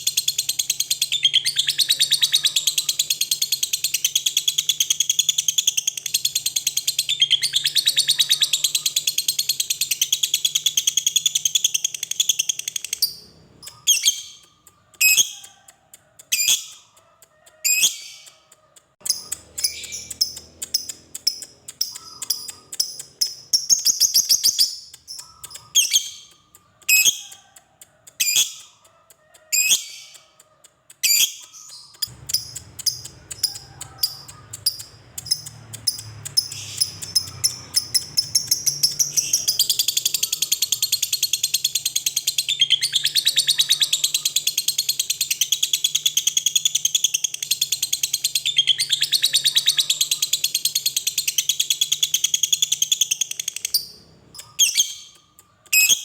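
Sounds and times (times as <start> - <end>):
lovebird chattering trill: 0.0 - 56.0
lovebird chirping: 0.0 - 56.0.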